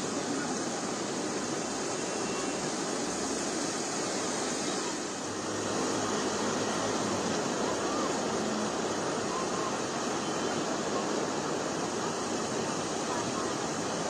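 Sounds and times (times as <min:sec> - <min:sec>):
cars driving through floodwater: 0:00.0 - 0:14.0
heavy rain: 0:00.0 - 0:14.0.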